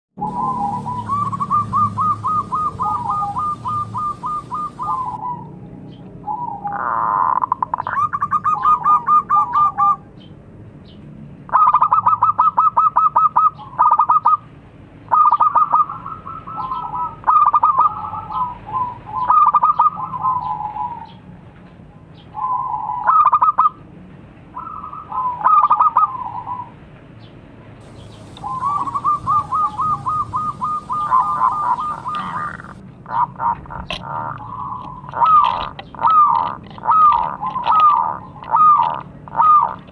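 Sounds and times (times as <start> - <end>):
dove cooing: 0.2 - 5.5, 6.2 - 10.0, 11.5 - 14.4, 15.1 - 21.2, 24.6 - 26.7, 27.8 - 39.9.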